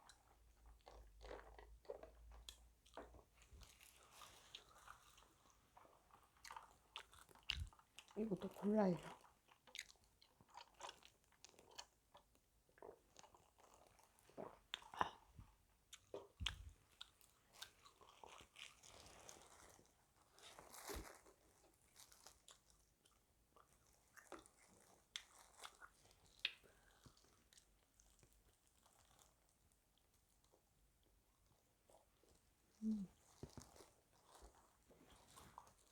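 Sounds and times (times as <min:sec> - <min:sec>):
person chewing crispy food: 0:00.0 - 0:35.9.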